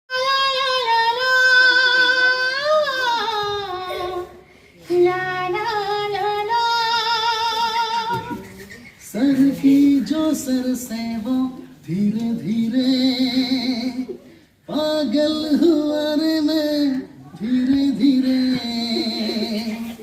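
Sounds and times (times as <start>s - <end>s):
high voice singing unaccompanied: 0.1s - 20.0s.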